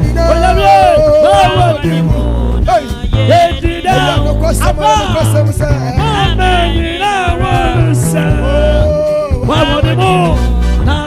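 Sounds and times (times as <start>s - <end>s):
band with stepping bass: 0.0s - 11.0s
person singing gospel melody: 0.0s - 11.0s.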